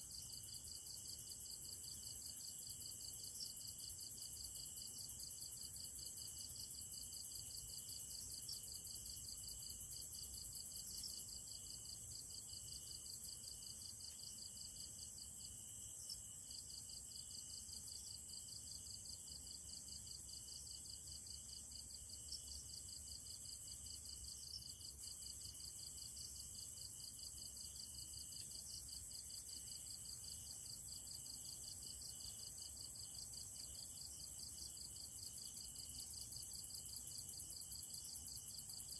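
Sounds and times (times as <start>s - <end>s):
crickets and insects chirring: 0.0s - 38.9s.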